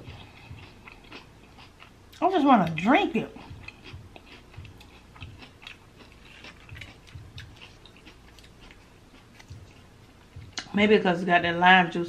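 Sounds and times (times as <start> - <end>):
person chewing with crunches: 0.0 - 10.7.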